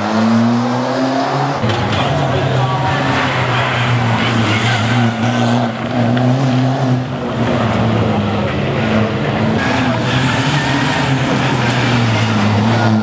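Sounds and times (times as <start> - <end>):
rally car engine under load: 0.0 - 13.0.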